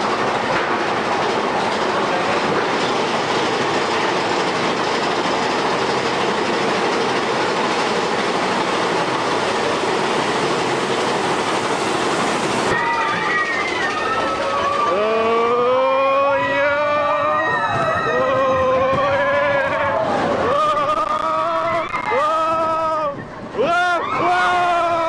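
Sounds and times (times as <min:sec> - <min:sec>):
roller coaster wheels on rail: 0:00.0 - 0:25.0.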